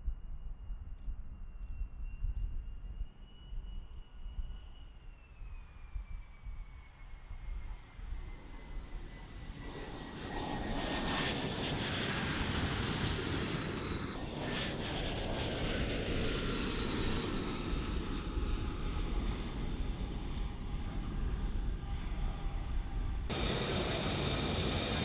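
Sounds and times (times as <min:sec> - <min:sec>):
jet engine roar and whine: 0:00.0 - 0:25.0.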